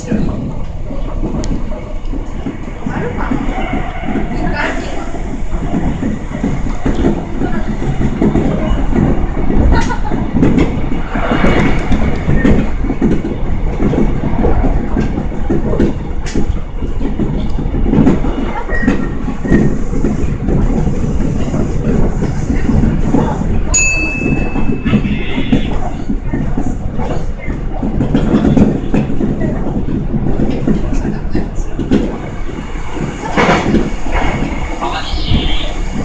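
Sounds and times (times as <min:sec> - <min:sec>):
electric train rumble: 0:00.0 - 0:36.0.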